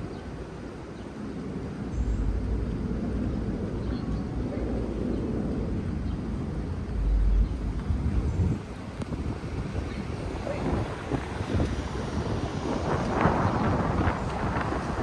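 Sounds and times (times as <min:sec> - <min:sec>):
car driving slowly: 0:00.0 - 0:15.0.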